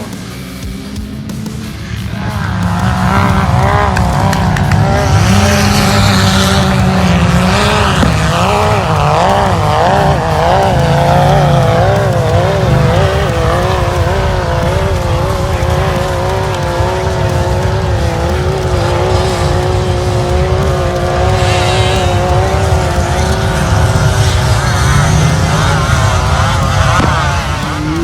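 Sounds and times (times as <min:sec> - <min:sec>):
car engine running hard: 0:00.0 - 0:28.0
tires squealing: 0:00.0 - 0:28.0.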